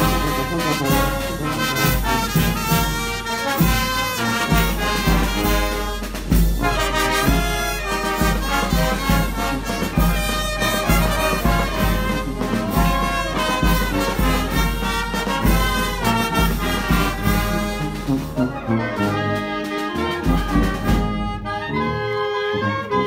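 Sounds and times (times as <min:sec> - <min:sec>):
wind band playing: 0:00.0 - 0:23.0.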